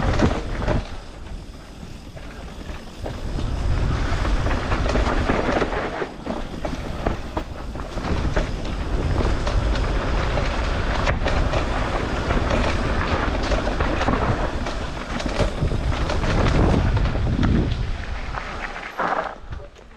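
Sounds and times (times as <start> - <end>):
wind buffeting microphone: 0.0 - 18.7
bike rattles and knocks: 0.0 - 19.9
tyres rumbling on rough ground: 0.0 - 19.9.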